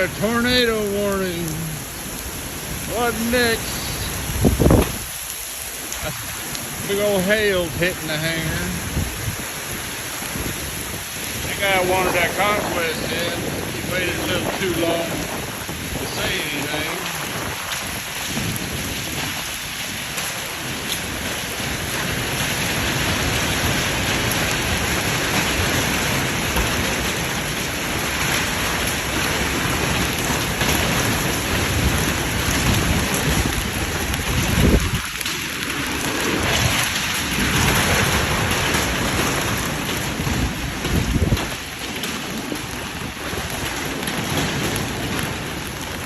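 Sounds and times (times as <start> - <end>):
rain and hail pounding: 0.0 - 46.0
strong wind: 0.0 - 46.0.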